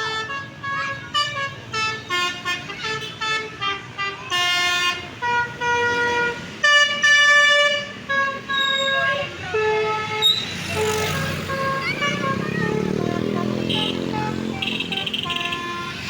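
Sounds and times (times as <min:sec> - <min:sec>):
bus musical horn playing tune: 0:00.0 - 0:16.0
engine rumble: 0:00.1 - 0:16.0.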